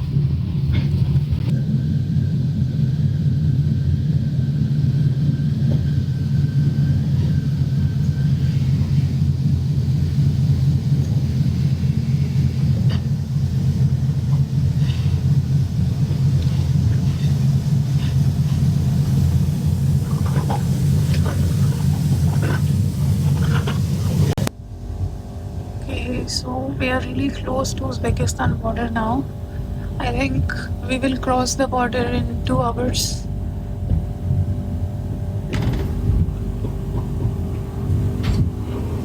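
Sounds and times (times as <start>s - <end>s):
faint thin whine: 0.0s - 39.0s
train rumbling inside carriage: 0.0s - 39.0s.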